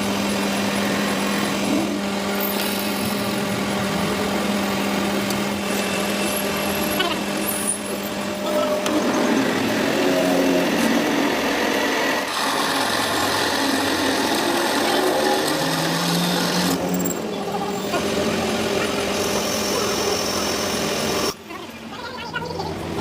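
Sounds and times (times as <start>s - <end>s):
metalworking power tool running: 0.0s - 21.9s.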